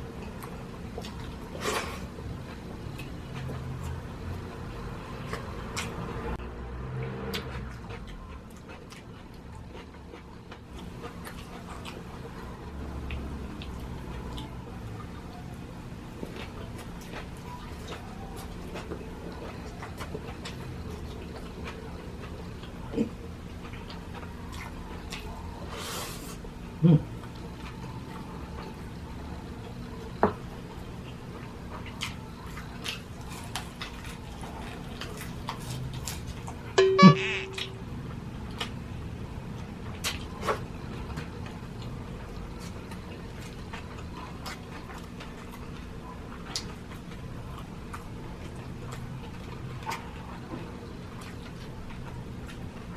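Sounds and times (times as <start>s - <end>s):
close-miked chewing: 0.0s - 36.8s, 37.6s - 52.9s.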